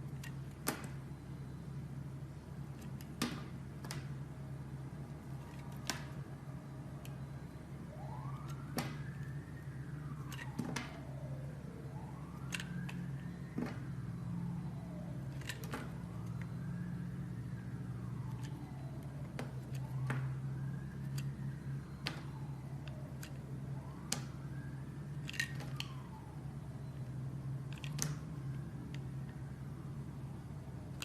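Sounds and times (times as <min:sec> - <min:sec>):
siren wailing: 0:04.9 - 0:31.0.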